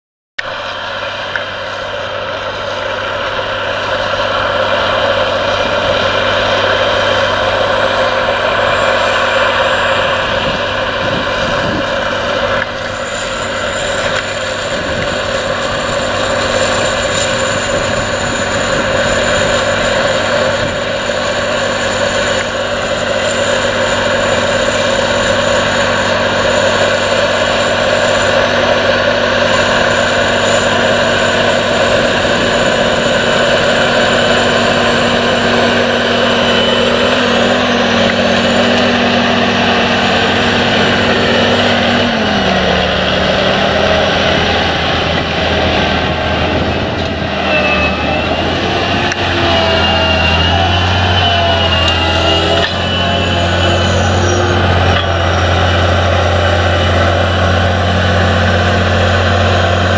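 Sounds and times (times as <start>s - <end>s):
thin high whine: 0.4s - 59.9s
tractor diesel engine under load: 0.4s - 59.9s.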